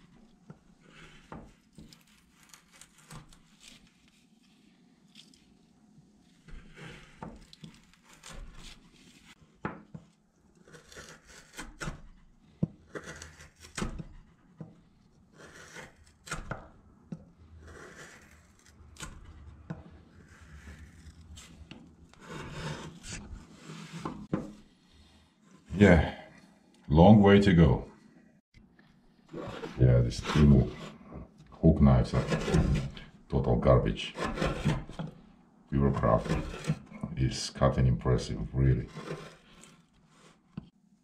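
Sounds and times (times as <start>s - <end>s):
knife carving wood: 0.0s - 5.6s, 6.2s - 25.8s, 28.9s - 37.1s, 38.2s - 40.8s.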